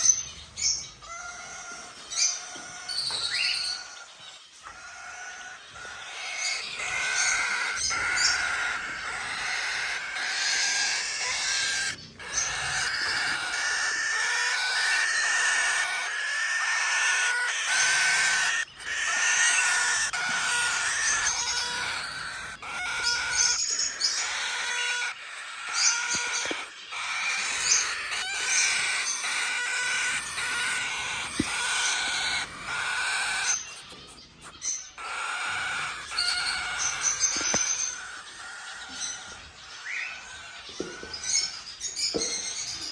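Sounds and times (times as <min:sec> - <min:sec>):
quail chirping and calling: 0:00.0 - 0:42.9.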